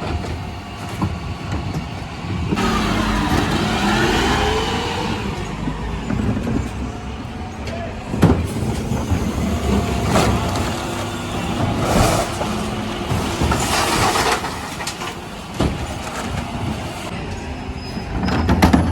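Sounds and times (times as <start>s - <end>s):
bin lifting rushing and rattling: 0.0s - 17.2s
refuse lorry running: 0.0s - 18.9s.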